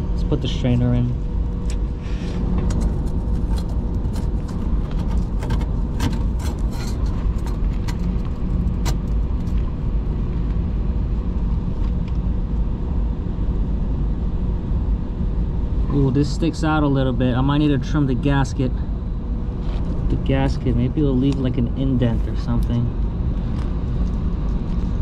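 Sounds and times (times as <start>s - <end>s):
low mechanical rumble with hum: 0.0s - 25.0s.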